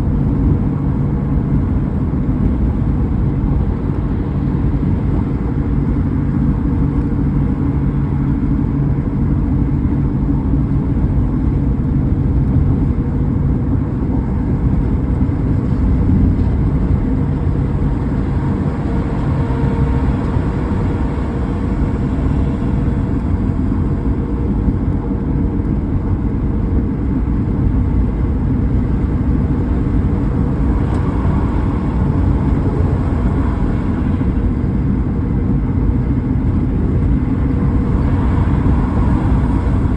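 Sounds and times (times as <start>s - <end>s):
car driving: 0.0s - 39.9s.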